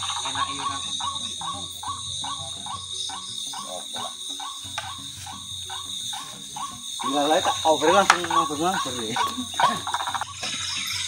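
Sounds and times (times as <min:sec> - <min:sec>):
high-pitched insects shrilling: 0:00.0 - 0:11.0
waterhen calls: 0:00.0 - 0:11.0.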